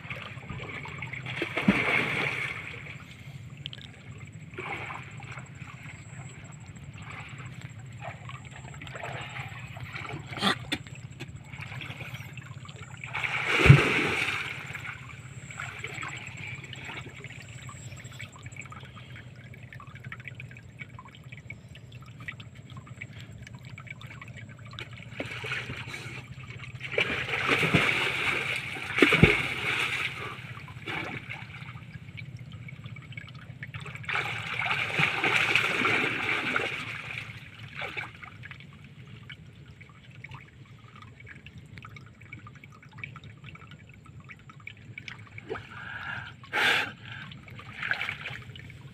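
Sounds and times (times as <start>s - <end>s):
water splashing against boat hull: 0.0s - 21.4s, 22.0s - 46.2s
steady low hum: 0.0s - 48.9s.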